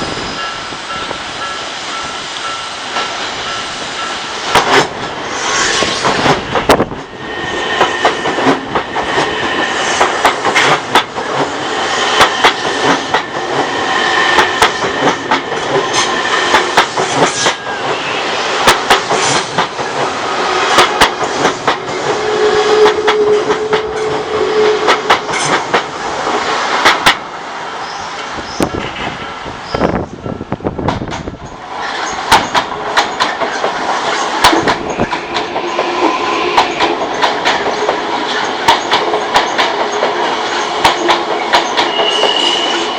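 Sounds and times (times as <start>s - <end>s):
train running rumble: 0.0s - 27.3s, 28.2s - 42.9s
train wheels clicking over rail joints: 0.4s - 27.3s, 30.1s - 42.9s.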